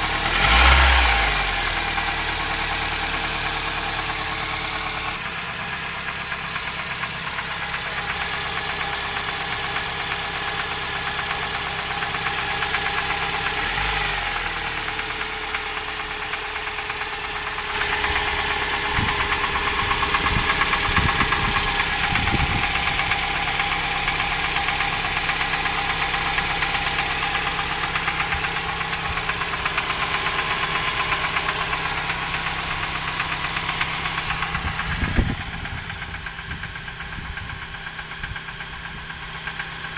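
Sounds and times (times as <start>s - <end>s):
engine running with knock: 0.0s - 39.9s.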